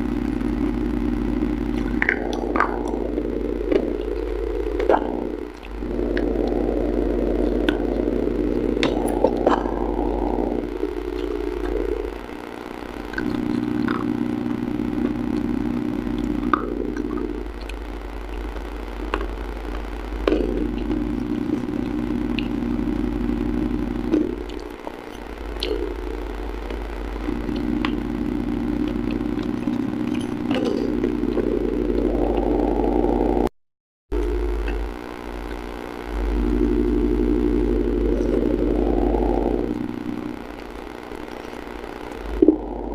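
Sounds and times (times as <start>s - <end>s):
steady low hum: 0.0s - 33.5s, 34.1s - 42.9s.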